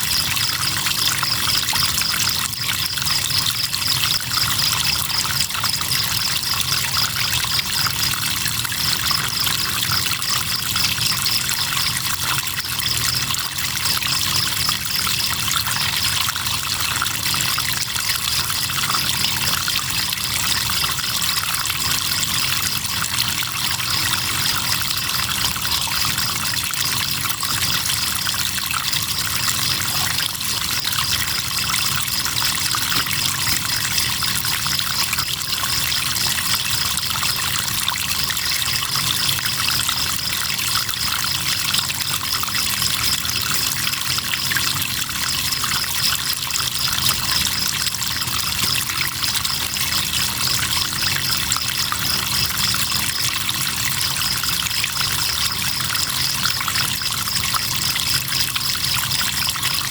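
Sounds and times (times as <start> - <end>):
crickets trilling: 0.0 - 59.9
flowing river water: 0.0 - 59.9.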